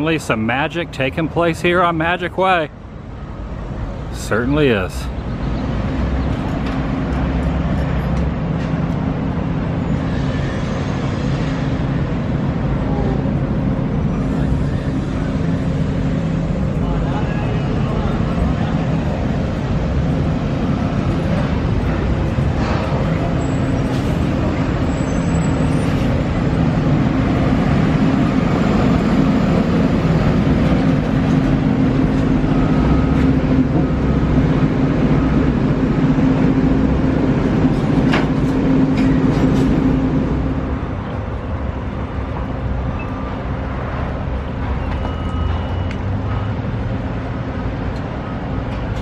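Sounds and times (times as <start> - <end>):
traffic engine hum: 0.0 - 49.0.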